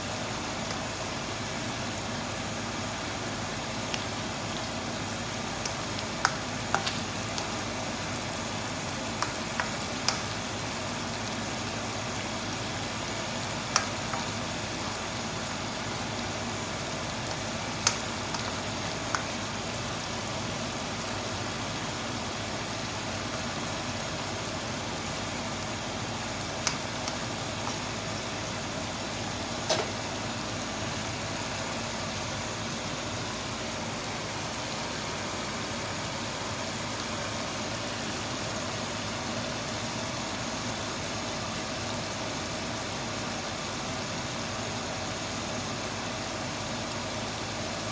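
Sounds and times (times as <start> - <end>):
stew simmering and sizzling: 0.0 - 47.9.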